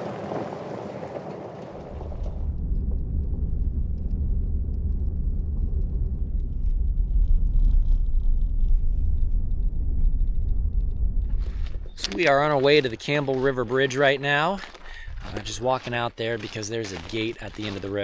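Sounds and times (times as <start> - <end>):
vehicle engine and tyre rumble: 0.0 - 18.0.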